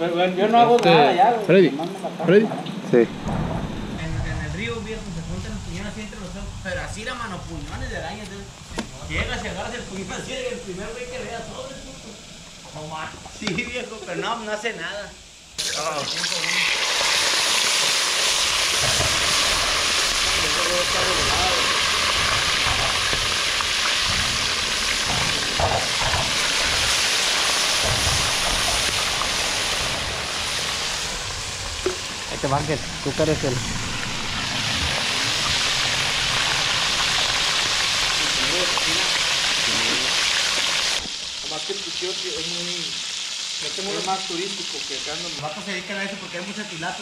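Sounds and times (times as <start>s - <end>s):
oil sizzling and bubbling: 3.0s - 47.0s.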